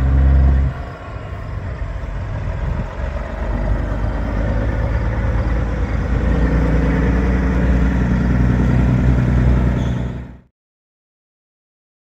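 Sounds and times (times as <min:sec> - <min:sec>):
truck diesel engine driving past: 0:00.0 - 0:10.5.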